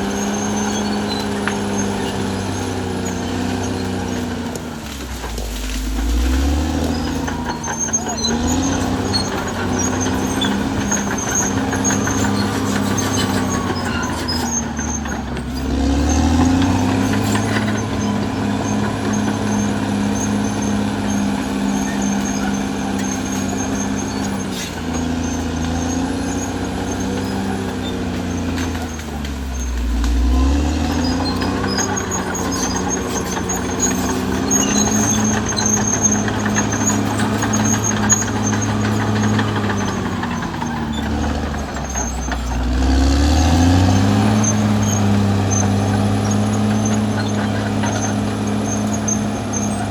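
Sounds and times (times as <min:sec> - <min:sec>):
bulldozer diesel engine working: 0:00.0 - 0:49.9.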